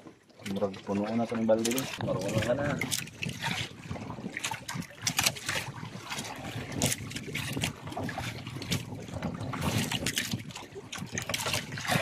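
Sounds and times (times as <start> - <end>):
water lapping against boat hull: 0.0 - 12.0
wind on microphone: 1.9 - 12.0.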